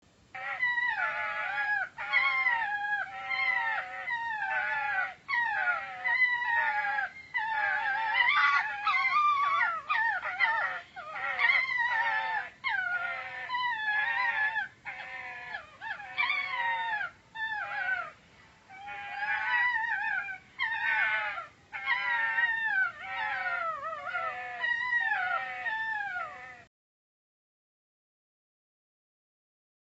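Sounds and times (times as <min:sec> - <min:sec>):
dog howling and whining: 0:00.4 - 0:26.7.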